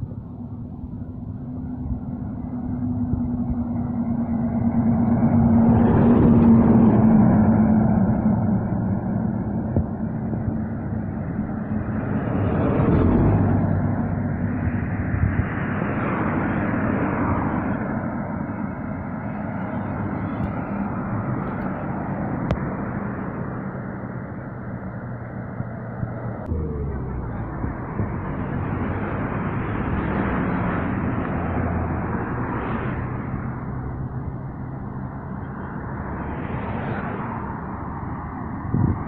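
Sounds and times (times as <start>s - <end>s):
road traffic with heavy trucks: 0.0s - 39.0s.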